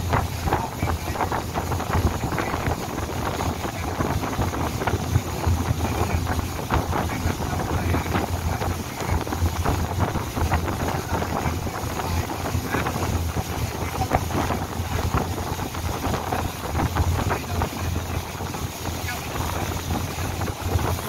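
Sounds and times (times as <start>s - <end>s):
boat engine droning: 0.0s - 21.0s
wind buffeting the microphone: 0.0s - 21.0s.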